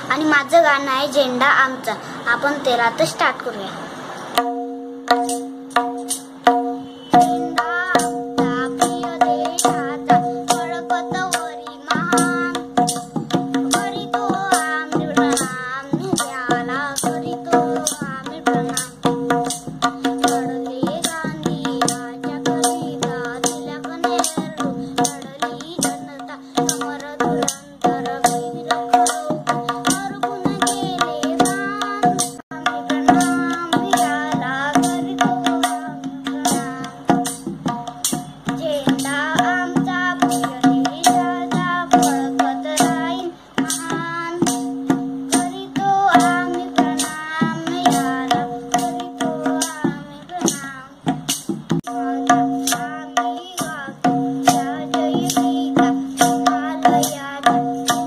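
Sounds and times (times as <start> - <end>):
boy singing: 0.0 - 3.8, 4.4 - 58.0
tabla strokes: 4.4 - 58.0.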